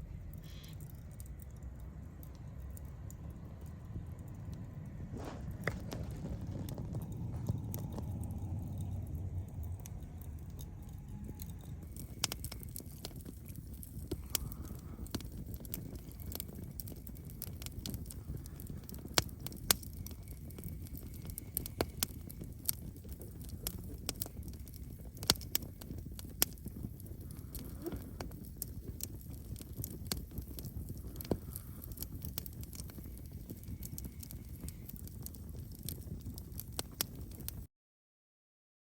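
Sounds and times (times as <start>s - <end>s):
campfire crackling and popping: 0.0s - 37.7s.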